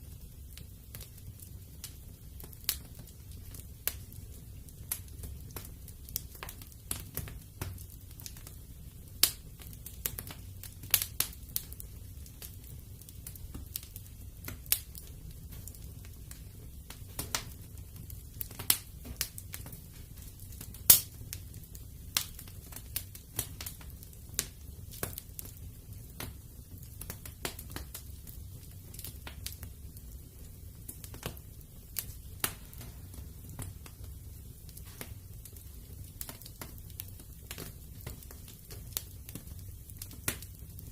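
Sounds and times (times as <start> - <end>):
fire crackling and popping: 0.0 - 40.9
low fire rumble: 0.0 - 40.9.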